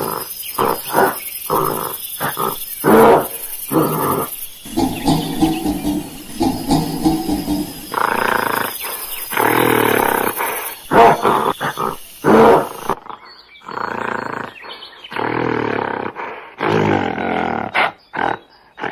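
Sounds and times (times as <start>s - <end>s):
gorilla roaring: 0.0s - 18.9s.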